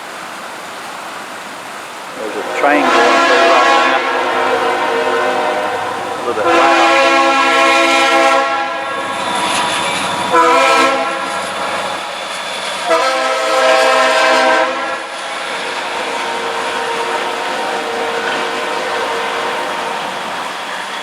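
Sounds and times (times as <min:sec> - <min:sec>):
train rolling by: 0:01.2 - 0:21.0
train horn blasts: 0:02.2 - 0:21.0.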